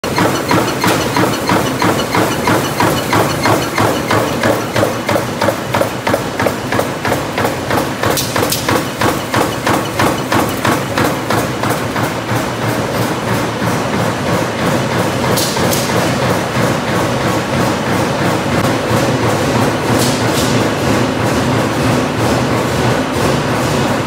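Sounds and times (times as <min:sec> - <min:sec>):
metalworking machinery clattering: 0:00.0 - 0:24.0.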